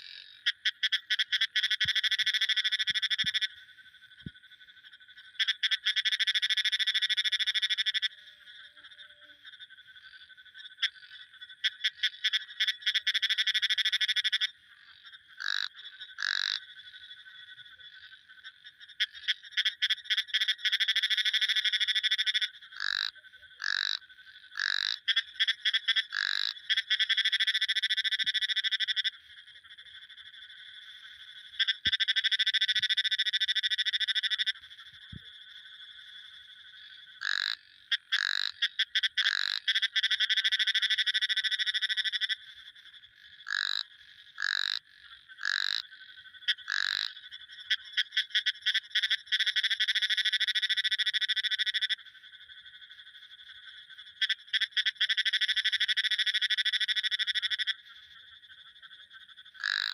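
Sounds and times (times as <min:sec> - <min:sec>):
faint frog chorus: 0:00.0 - 0:59.9
frog croaks: 0:00.0 - 0:59.9
frog trills: 0:00.0 - 0:59.9.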